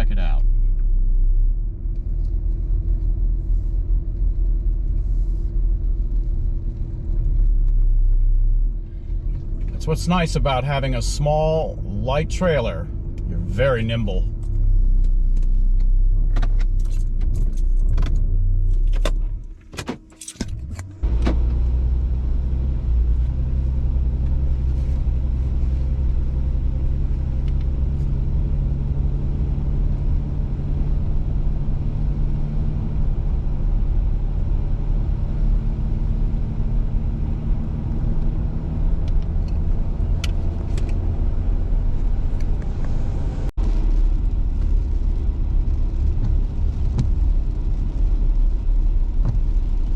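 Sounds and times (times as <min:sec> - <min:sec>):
car engine and road hum: 0:00.0 - 0:49.9.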